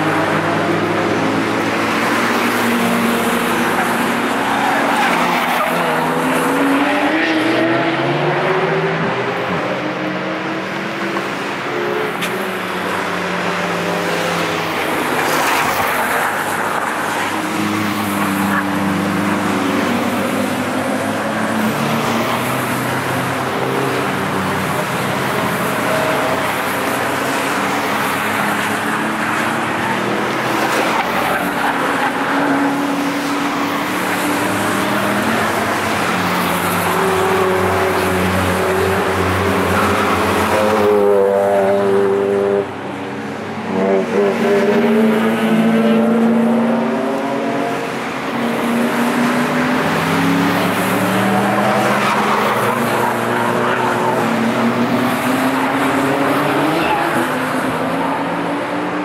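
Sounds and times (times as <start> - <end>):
cars driving past at speed: 0.0 - 59.0.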